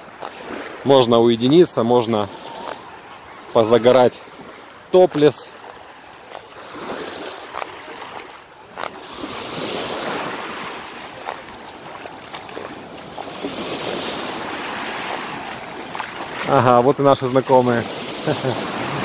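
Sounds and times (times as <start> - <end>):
waves washing onto sandy shore: 0.0 - 19.0.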